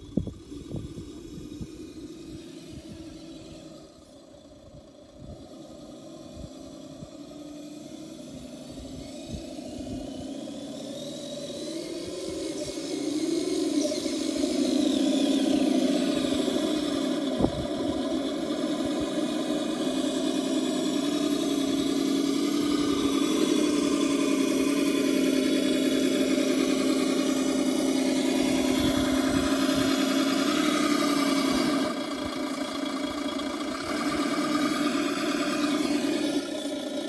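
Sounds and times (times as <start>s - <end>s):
simulated truck engine from speaker: 0.0s - 37.0s.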